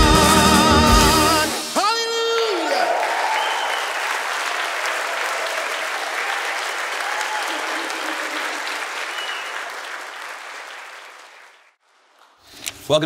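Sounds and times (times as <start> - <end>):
crowd applauding: 0.0 - 11.8.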